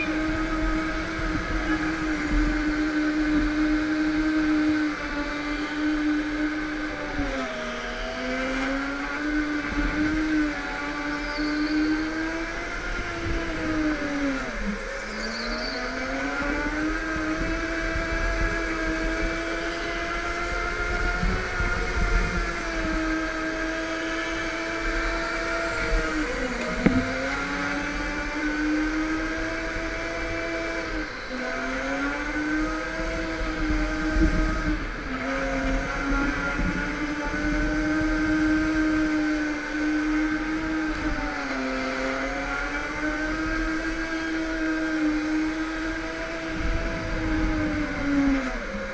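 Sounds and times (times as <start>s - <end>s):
go-kart motor whine: 0.0s - 48.9s.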